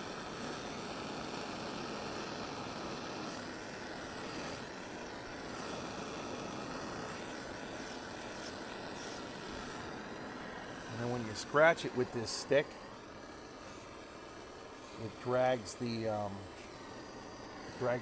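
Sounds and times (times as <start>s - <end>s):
gas torch hissing: 0.0s - 18.0s.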